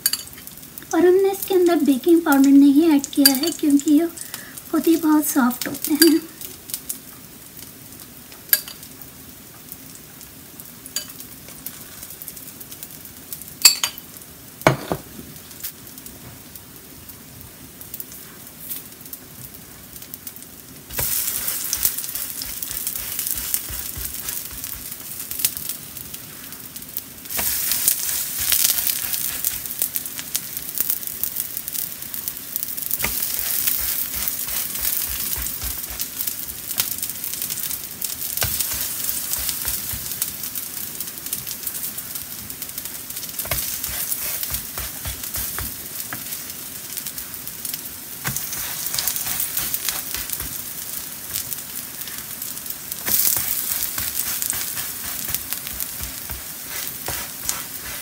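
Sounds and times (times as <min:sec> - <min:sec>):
pancakes sizzling in oil: 0:00.0 - 0:58.0.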